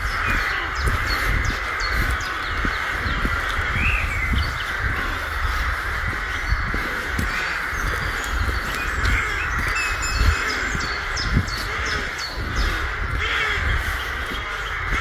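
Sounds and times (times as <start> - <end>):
crows cawing: 0.0 - 15.0
footsteps on dirt path: 0.0 - 15.0.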